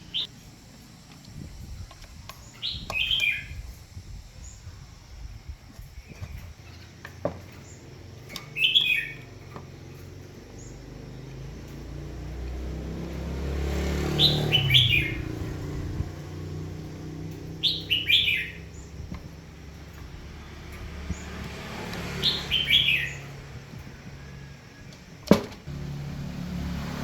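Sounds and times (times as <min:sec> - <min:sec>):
small bird chirping: 0:00.0 - 0:25.2
low engine hum: 0:00.0 - 0:27.0.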